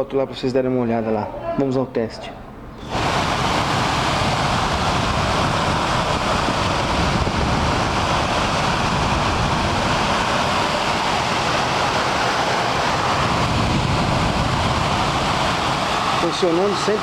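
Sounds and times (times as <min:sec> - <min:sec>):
heater blower fan running: 0:02.6 - 0:17.0.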